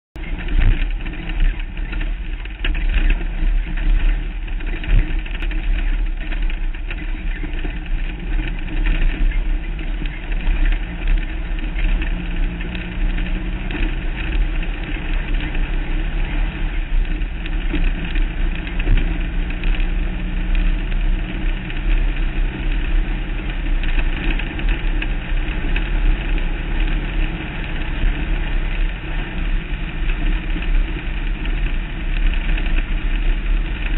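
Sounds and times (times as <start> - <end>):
race vehicle engine running hard: 0.2 - 33.9
road and wind noise: 0.2 - 33.9.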